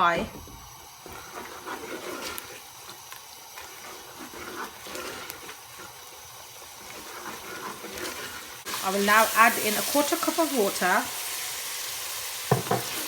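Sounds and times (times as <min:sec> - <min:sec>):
masala sizzling in hot oil: 0:00.0 - 0:13.0.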